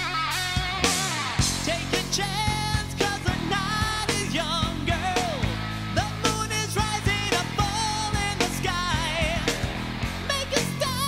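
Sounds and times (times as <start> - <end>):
bass guitar: 0.0 - 11.0
electric guitar: 0.0 - 11.0
rock vocal singing: 0.0 - 11.0
drum beat: 0.6 - 11.0.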